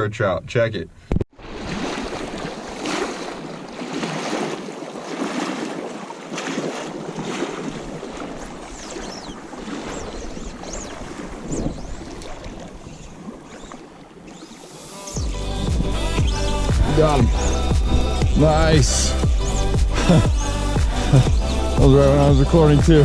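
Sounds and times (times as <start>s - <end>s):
rushing river water: 1.4s - 23.0s.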